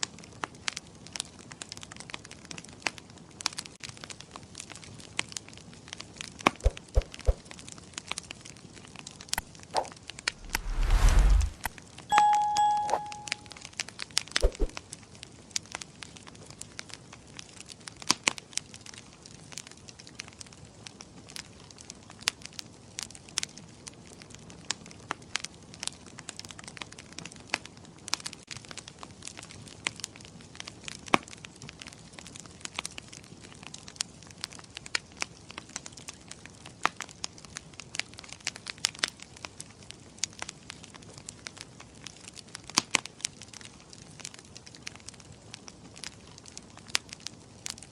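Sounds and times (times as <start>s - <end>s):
wood fire crackling: 0.0s - 12.0s, 13.6s - 47.9s.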